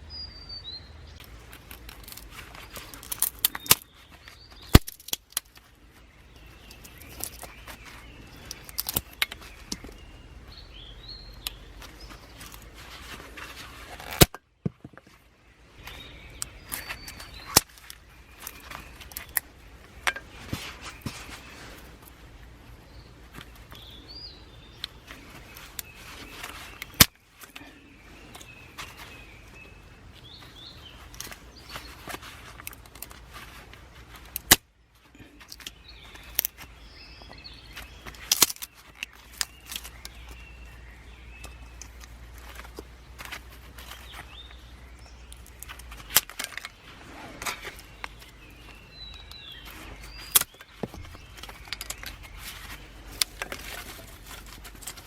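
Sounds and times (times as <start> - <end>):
birds chirping: 0.0 - 55.0
steady low background noise: 0.0 - 55.0.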